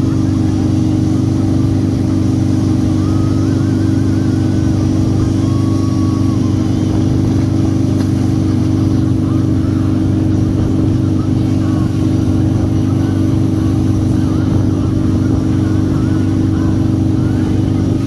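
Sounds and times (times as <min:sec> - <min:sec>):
motorboat engine drone: 0:00.0 - 0:18.0.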